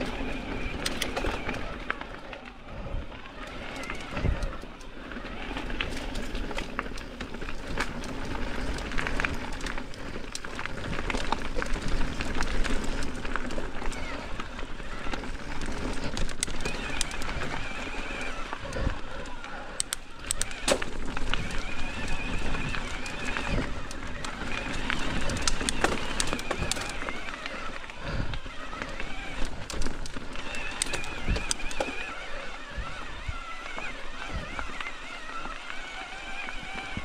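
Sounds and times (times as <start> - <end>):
bike clicks and rattles: 0.0 - 37.0
bike tyres rolling on dirt: 0.0 - 37.0.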